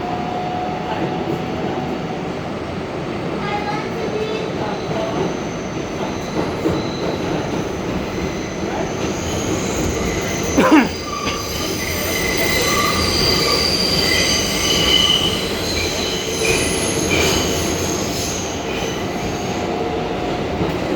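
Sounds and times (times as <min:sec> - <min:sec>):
subway train on rails: 0:00.0 - 0:20.9.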